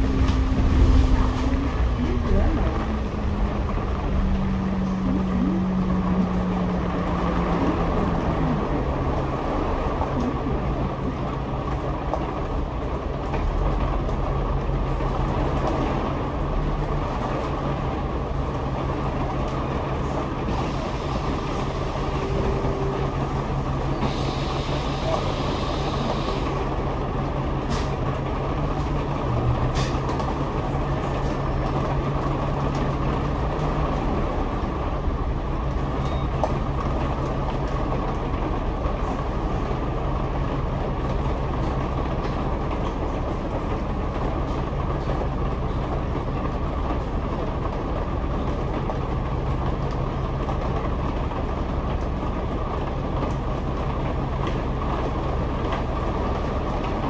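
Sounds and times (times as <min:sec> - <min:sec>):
bus engine hum: 0:00.0 - 0:57.0
road rumble: 0:00.0 - 0:57.0.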